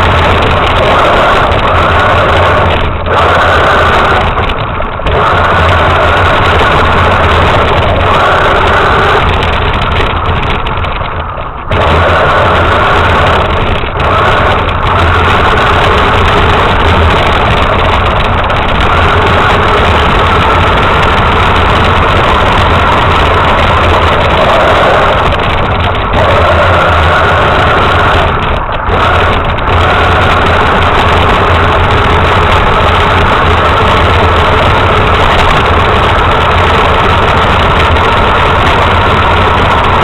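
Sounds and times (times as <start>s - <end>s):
toy truck motor running: 0.0s - 40.0s.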